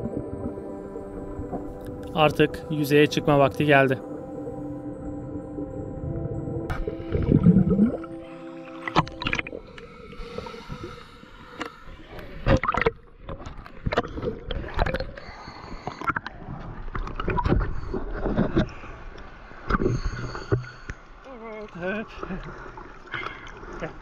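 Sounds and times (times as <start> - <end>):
water gurgling: 0.0 - 24.0
water sloshing and splashing: 0.0 - 24.0.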